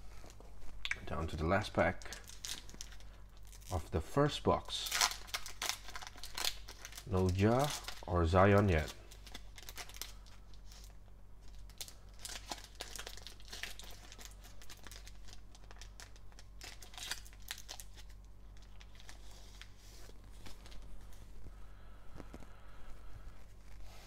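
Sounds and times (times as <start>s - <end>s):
foil wrapper crinkling and tearing: 1.1s - 20.9s.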